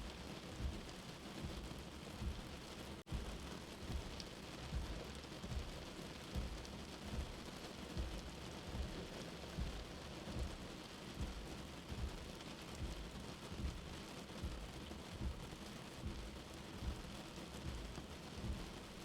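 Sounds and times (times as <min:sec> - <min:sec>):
rain heard from indoors: 0:00.0 - 0:19.0
soft heartbeat thumping: 0:00.0 - 0:19.0.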